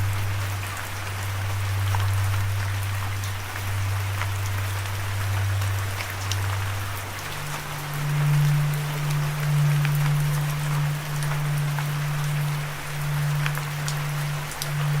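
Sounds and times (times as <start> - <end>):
low steady tone: 0.0 - 15.0
steady rain: 0.0 - 15.0.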